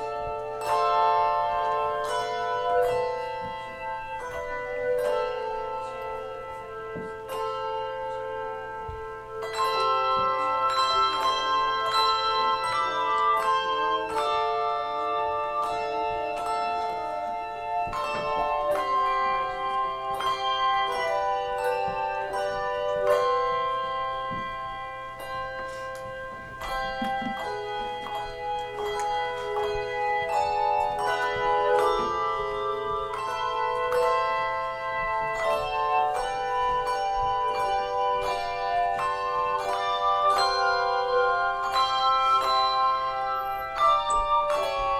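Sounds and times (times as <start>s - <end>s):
handbell choir playing: 0.0s - 44.9s.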